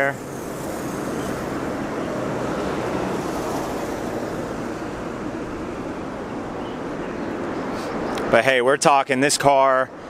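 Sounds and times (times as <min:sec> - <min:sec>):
rushing outdoor noise: 0:00.0 - 0:10.0.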